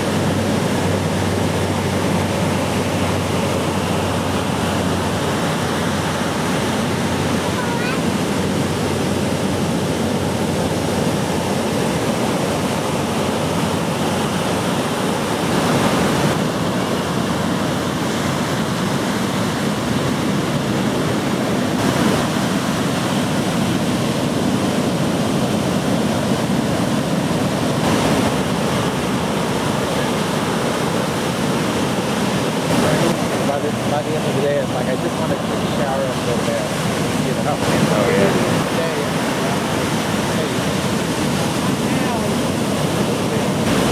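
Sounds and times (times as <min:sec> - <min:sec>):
ocean waves breaking: 0:00.0 - 0:43.9.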